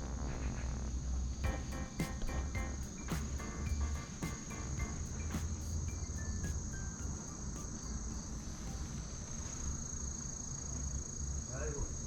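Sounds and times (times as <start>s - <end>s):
insects trilling: 1.4s - 12.0s.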